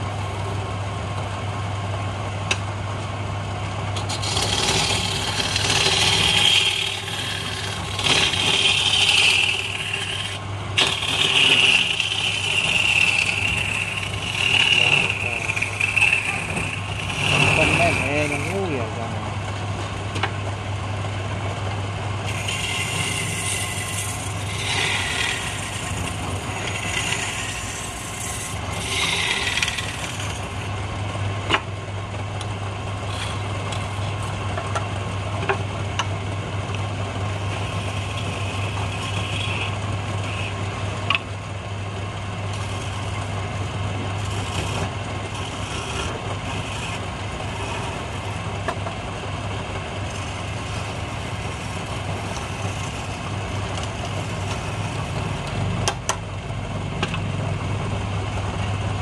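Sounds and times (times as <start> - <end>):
chisel scraping spinning wood: 3.9 - 20.4, 21.6 - 31.8, 32.4 - 56.2
lathe motor humming: 3.9 - 56.1.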